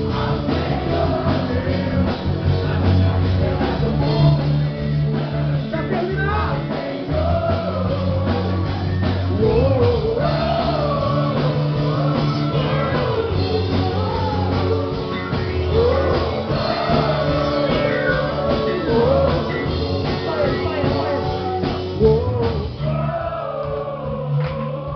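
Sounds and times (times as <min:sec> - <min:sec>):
rock worship song with singing: 0:00.0 - 0:24.9.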